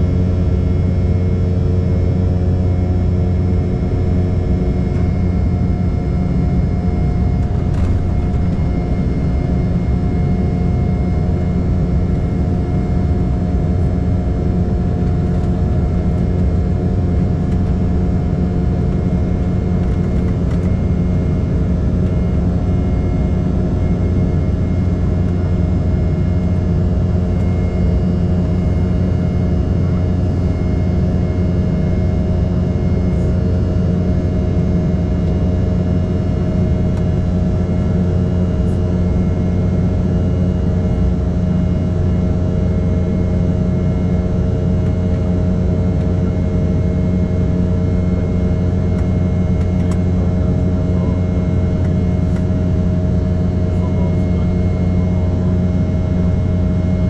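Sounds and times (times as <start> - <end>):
jet airliner cabin drone: 0.0 - 57.0
steady whining tones: 0.0 - 57.0.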